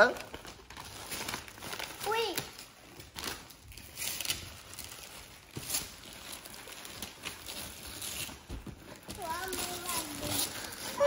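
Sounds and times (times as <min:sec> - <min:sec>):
wrapping paper rustling: 0:00.0 - 0:11.0.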